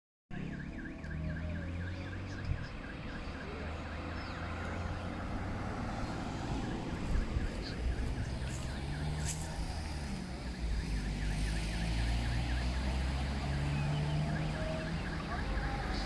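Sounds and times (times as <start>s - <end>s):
electronic alarm warbling: 0.3s - 16.0s.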